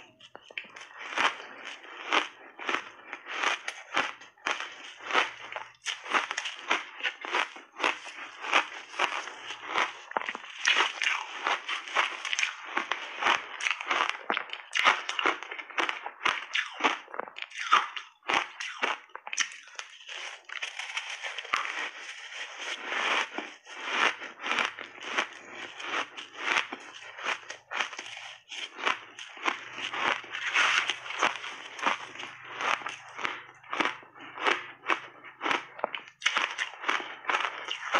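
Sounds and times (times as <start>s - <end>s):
ice chunks crunching when chewed: 0.0s - 37.9s.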